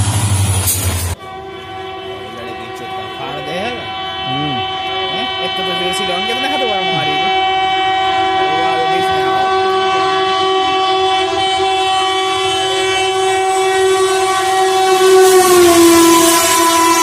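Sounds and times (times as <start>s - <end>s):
locomotive horn long blast: 0.0s - 17.0s.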